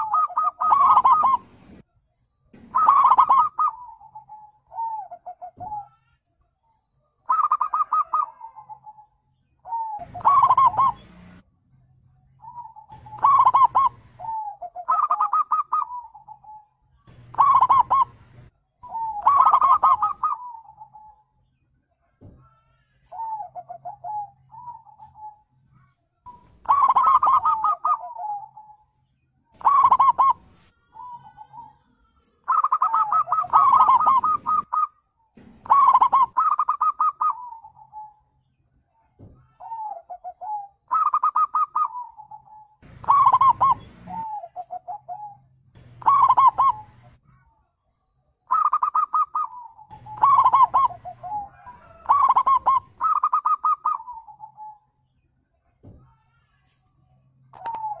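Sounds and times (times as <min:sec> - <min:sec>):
dove cooing: 0:00.0 - 0:01.8, 0:02.6 - 0:06.2, 0:07.2 - 0:11.4, 0:12.4 - 0:21.2, 0:22.3 - 0:25.4, 0:26.3 - 0:28.8, 0:29.6 - 0:31.8, 0:32.4 - 0:38.2, 0:39.2 - 0:47.2, 0:48.5 - 0:54.8, 0:57.5 - 0:58.0.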